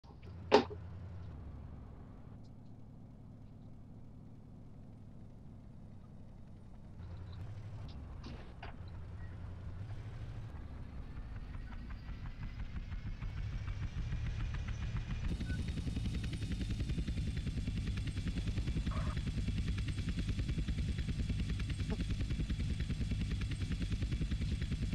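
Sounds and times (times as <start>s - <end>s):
vehicle engine running: 0.0s - 24.9s.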